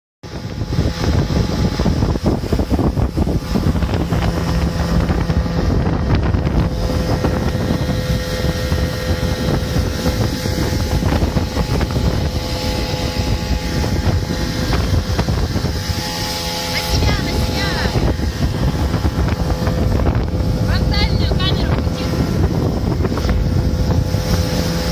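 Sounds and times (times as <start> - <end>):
outboard motor running: 0.2 - 24.9
wind buffeting microphone: 0.2 - 24.9.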